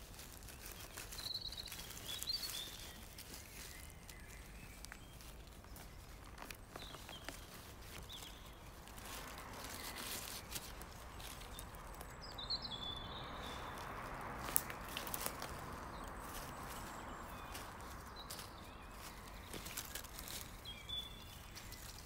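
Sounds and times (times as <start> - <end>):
dry leaves rustling and crackling: 0.0 - 22.0
footsteps through leaves: 0.0 - 22.0.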